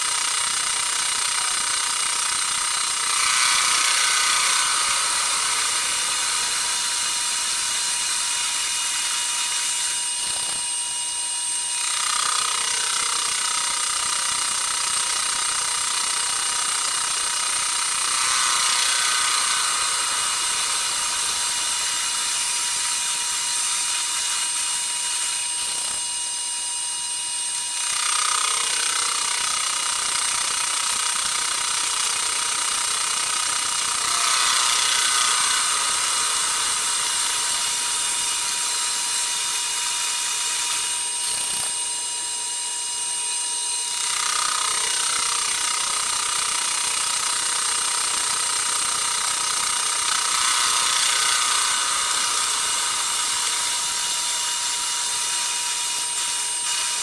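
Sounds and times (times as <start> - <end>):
metal lathe whining and cutting: 0.0 - 57.0.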